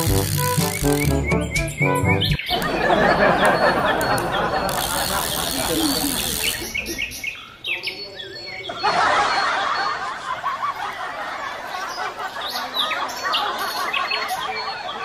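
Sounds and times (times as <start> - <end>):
small birds chirping: 0.0 - 10.0, 10.7 - 15.0.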